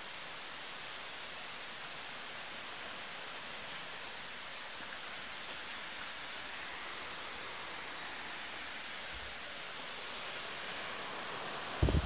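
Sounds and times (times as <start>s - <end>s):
distant waterfall rushing: 0.0s - 12.0s.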